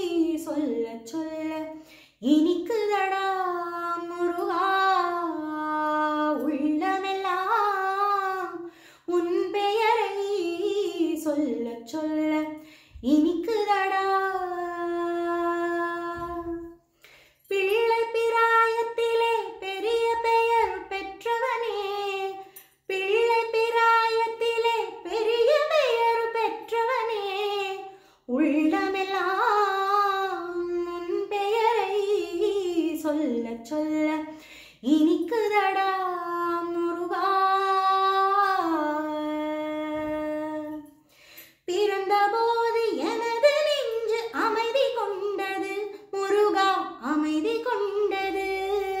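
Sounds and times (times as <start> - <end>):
woman singing devotional song: 0.0 - 49.0.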